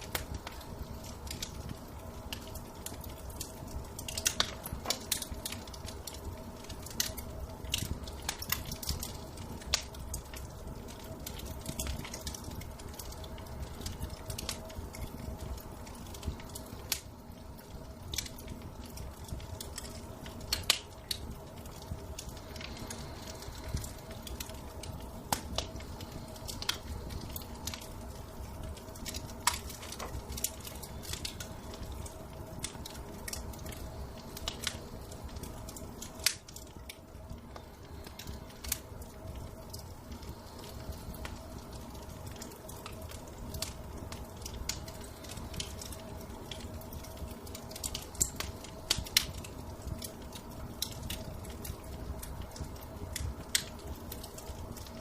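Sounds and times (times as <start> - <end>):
faint steady hum: 0.0 - 55.0
fire crackling in fireplace: 0.0 - 55.0.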